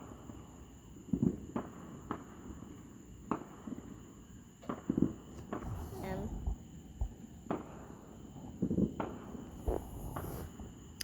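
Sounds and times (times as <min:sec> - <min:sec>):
distant fireworks popping: 0:00.0 - 0:11.0.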